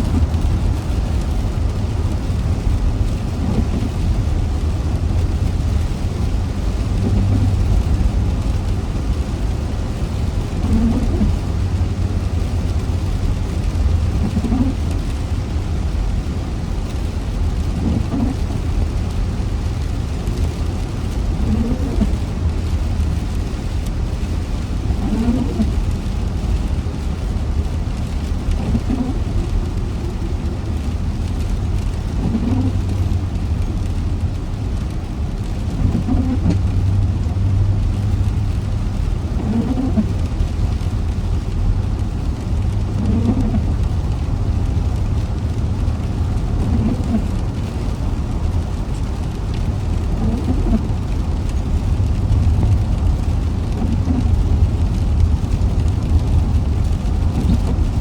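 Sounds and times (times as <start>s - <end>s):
car road rumble: 0.0s - 58.0s
rain hissing: 0.0s - 58.0s.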